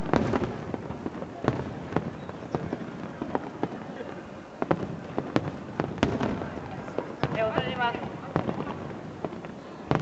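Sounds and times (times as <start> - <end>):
fireworks bursting with sharp bangs: 0.0 - 10.0.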